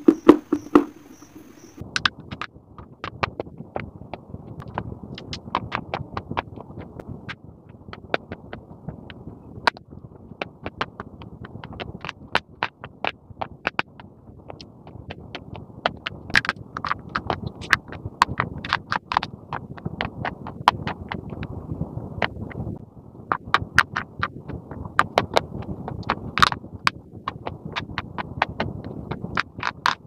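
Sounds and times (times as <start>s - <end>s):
soft grinding crackle: 0.0s - 30.0s.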